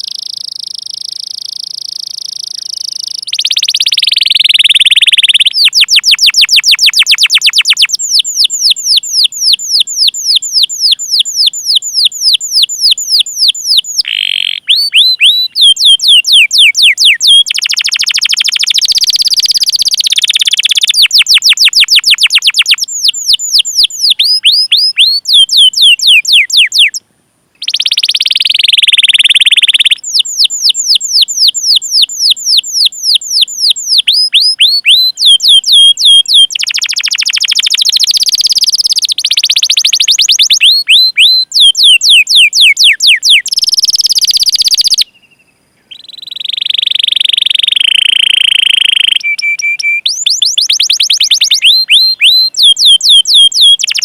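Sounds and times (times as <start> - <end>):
canary singing chirps and trills: 0.0 - 27.0, 27.6 - 54.0.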